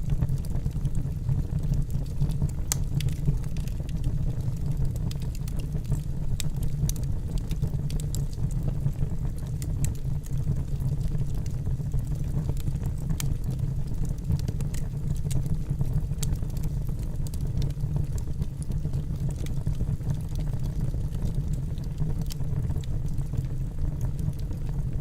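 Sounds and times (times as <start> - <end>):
logs crackling and popping: 0.0 - 25.0
fire flames roaring: 0.1 - 10.0, 10.7 - 25.0.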